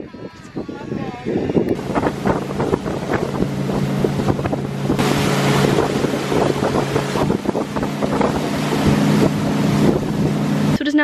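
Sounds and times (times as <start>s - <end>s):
motorboat engine running: 0.0s - 11.0s
rush of boat wake: 0.0s - 11.0s
wind buffeting microphone: 0.0s - 11.0s.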